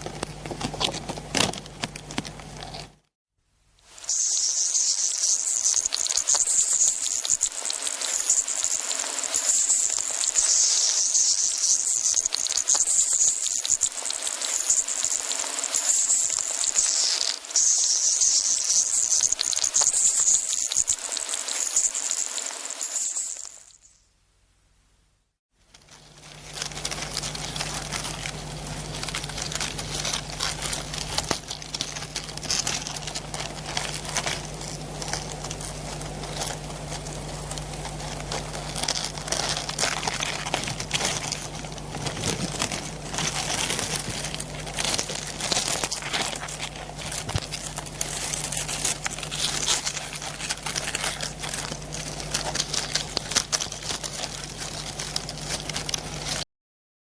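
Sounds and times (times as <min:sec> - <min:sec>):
low electrical hum: 0:00.0 - 0:22.7, 0:23.4 - 0:56.4
crackling and crinkling: 0:00.0 - 0:23.9, 0:25.6 - 0:56.5.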